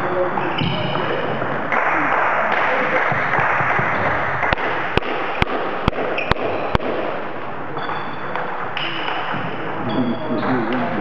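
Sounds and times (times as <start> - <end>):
table tennis ball bouncing: 0.6 - 9.6.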